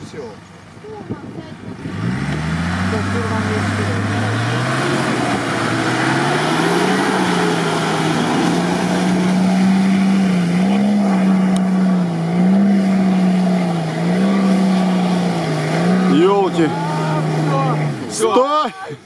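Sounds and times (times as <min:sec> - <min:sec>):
suv engine revving: 0:00.0 - 0:19.0.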